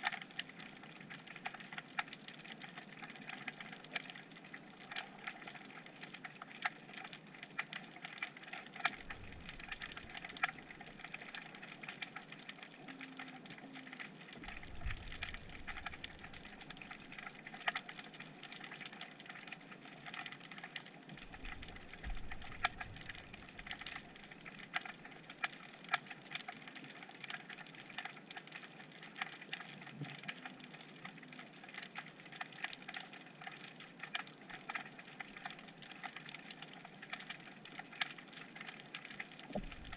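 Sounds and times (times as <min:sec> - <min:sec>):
snapping shrimp clicks underwater: 0:00.0 - 0:39.9.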